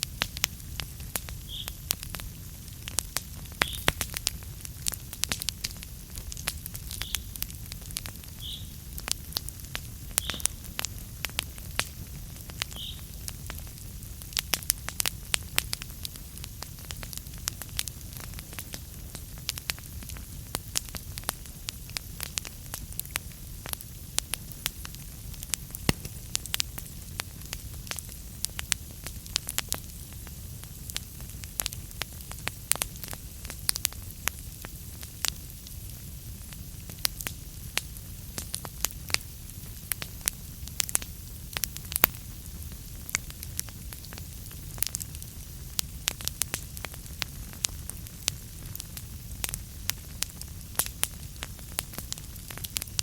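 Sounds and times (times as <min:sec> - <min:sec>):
crackles and pops of burning logs: 0:00.0 - 0:53.0
low rumble of flames: 0:00.0 - 0:53.0.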